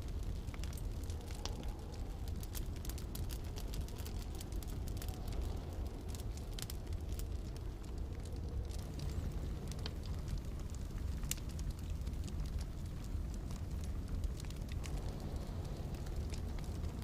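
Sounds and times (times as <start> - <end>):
low rumble of storm wind: 0.0 - 17.0
wood fire crackling and popping: 0.0 - 17.0.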